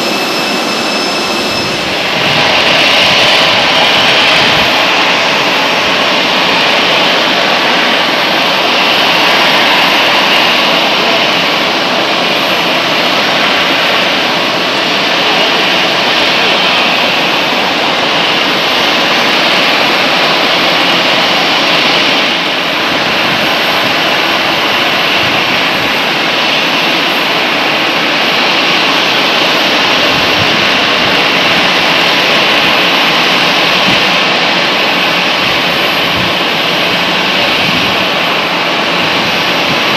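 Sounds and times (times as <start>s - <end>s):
jet engine rushing: 0.0s - 39.9s.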